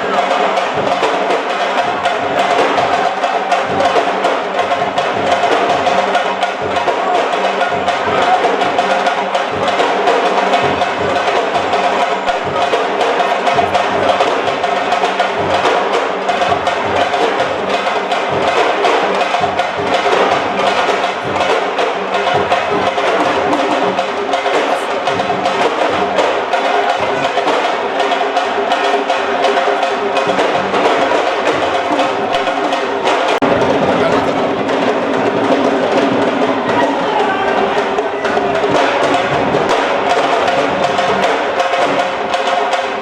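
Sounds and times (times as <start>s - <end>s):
fast dense drumming: 0.0s - 43.0s.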